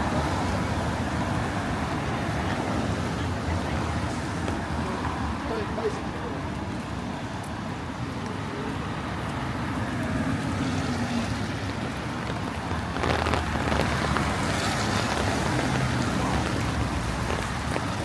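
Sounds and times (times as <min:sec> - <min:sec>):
rain: 0:00.0 - 0:18.0
wet road noise: 0:00.0 - 0:18.0.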